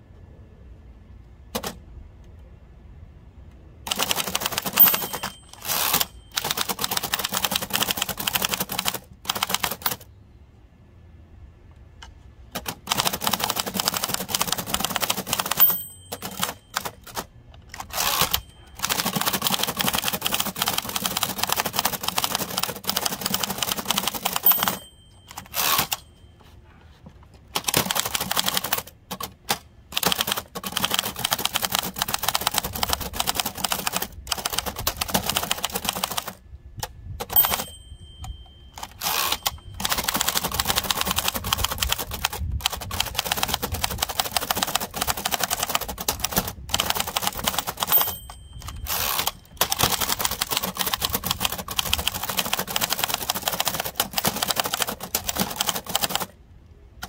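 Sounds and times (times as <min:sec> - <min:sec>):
typewriter typing: 0:01.6 - 0:01.8, 0:03.9 - 0:10.1, 0:12.5 - 0:26.1, 0:27.5 - 0:36.4, 0:37.2 - 0:56.4.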